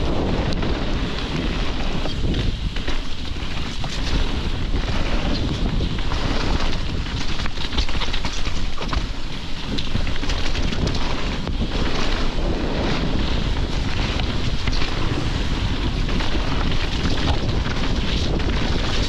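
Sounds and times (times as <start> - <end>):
bike rattles and knocks: 0.0 - 19.0
bike tyres on dirt: 0.0 - 19.0
wind buffeting microphone: 0.0 - 19.0.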